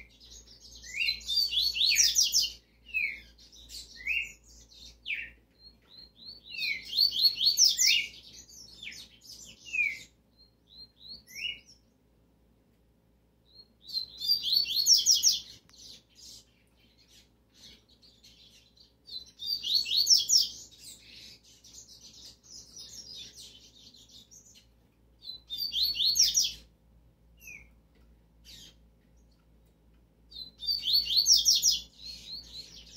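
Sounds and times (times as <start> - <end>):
bird twittering song: 0.0 - 12.0, 13.4 - 26.7, 27.4 - 32.9.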